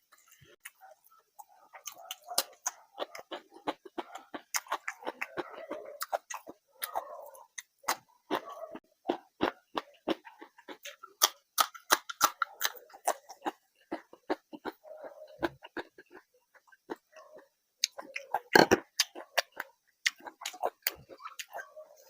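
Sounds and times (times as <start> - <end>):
wet chewing and mouth smacks: 0.1 - 22.0.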